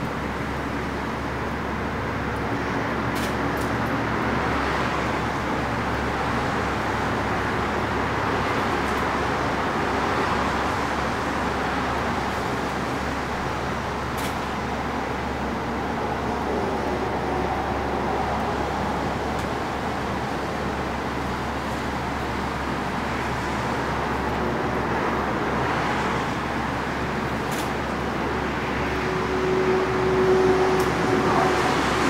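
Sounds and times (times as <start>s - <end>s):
steady rushing noise with low hum: 0.0s - 32.0s.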